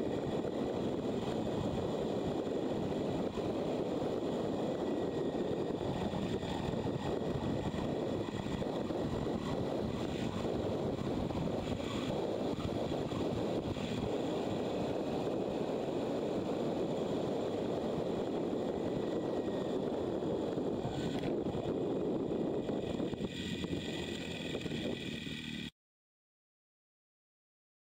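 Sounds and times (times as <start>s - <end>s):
wind rushing over microphone: 0.0s - 25.4s
motorcycle road noise: 0.0s - 25.7s.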